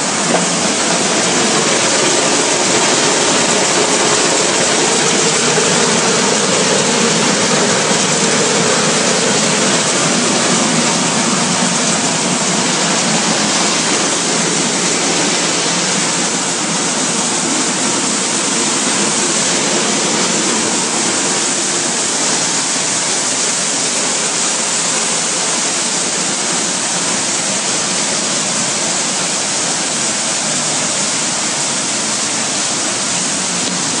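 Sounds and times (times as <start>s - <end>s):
plastic flakes rushing through machine: 0.0s - 31.2s.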